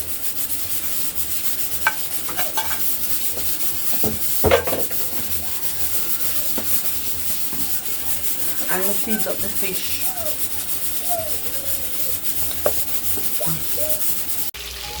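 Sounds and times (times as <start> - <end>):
hands rubbing meat: 0.0 - 14.5.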